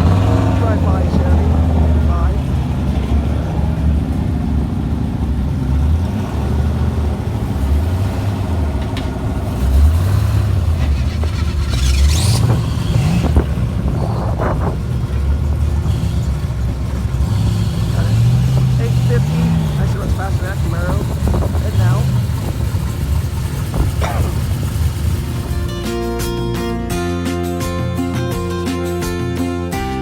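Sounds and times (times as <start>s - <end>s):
race car engines rumbling: 0.0s - 26.4s.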